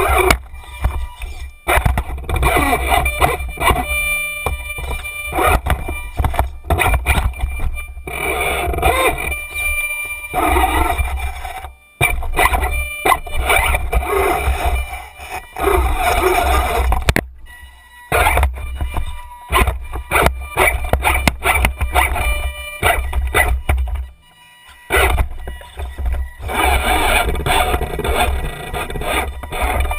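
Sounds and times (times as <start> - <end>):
electric motor whine: 0.0 - 29.9.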